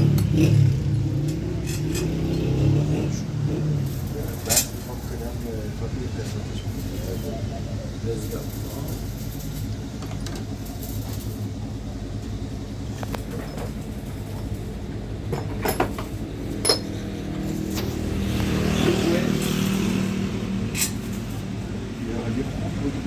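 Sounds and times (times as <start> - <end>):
road noise: 0.0 - 23.0
vehicle engine running: 0.0 - 23.0.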